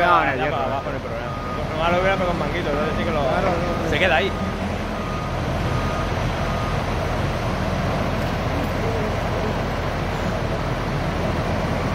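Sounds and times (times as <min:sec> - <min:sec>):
truck engine humming: 0:00.0 - 0:11.9.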